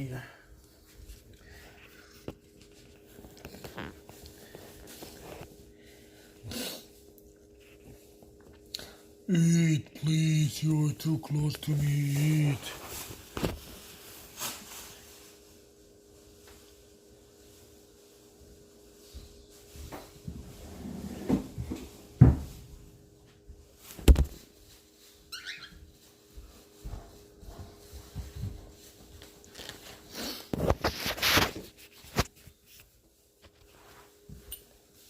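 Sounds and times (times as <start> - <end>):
rustling handling noises: 0.0 - 6.3, 11.0 - 20.6, 21.4 - 35.0.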